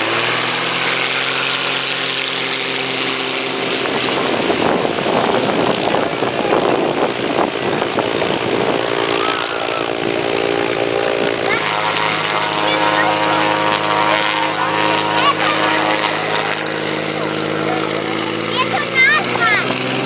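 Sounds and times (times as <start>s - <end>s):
propeller aircraft engine: 0.0s - 20.0s
propeller and wind rushing: 0.0s - 20.0s.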